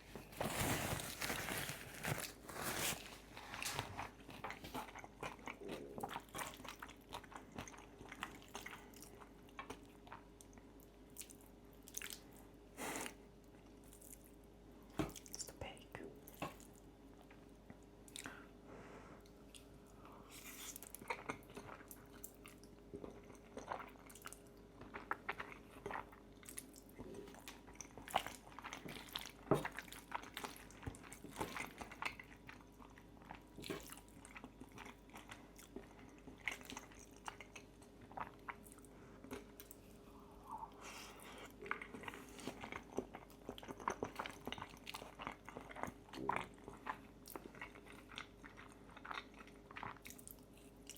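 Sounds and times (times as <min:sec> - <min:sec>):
chewing and crunching food: 0:00.0 - 0:18.6, 0:19.2 - 0:50.9.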